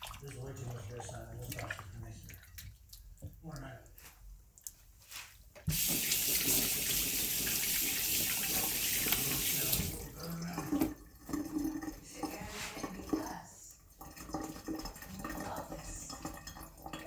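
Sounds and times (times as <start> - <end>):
tap water running into a sink: 0.0 - 3.8, 5.6 - 17.0.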